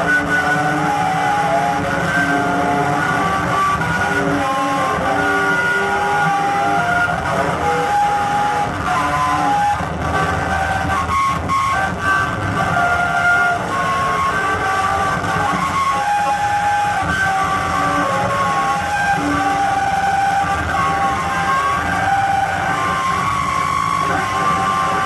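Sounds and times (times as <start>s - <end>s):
held electronic notes: 0.0s - 25.0s
low noisy drone: 0.0s - 25.0s.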